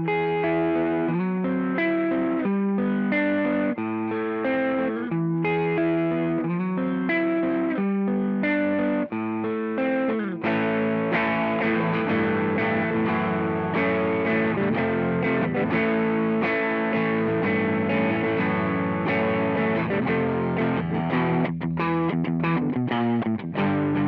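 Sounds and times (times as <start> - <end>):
overdriven electric guitar riff: 0.0 - 24.0.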